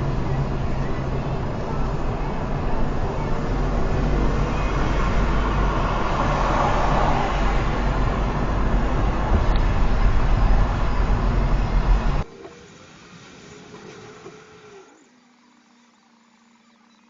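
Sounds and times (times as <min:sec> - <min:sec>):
vehicle and road noise: 0:00.0 - 0:15.2.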